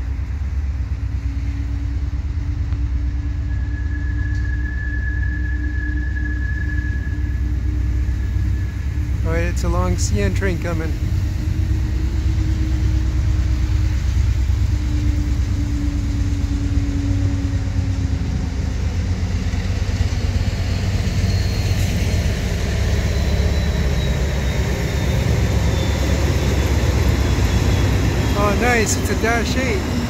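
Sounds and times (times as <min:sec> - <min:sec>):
diesel locomotive engine rumble: 0:00.0 - 0:30.0
faint high whine: 0:00.0 - 0:30.0.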